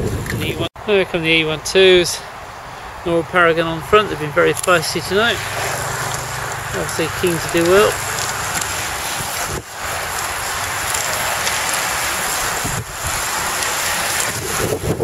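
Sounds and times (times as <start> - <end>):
wind buffeting microphone: 0.0 - 0.7, 1.8 - 15.0.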